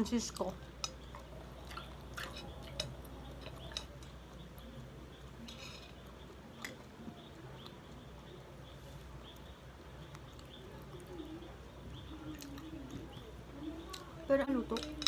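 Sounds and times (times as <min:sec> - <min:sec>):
chewing and eating: 0:00.0 - 0:15.0.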